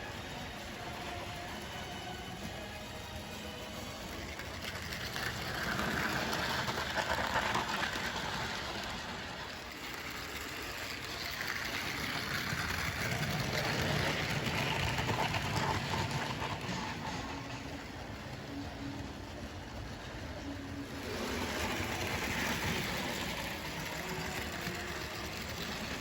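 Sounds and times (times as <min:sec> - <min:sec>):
model train wheels clattering on rails: 0:00.0 - 0:26.0.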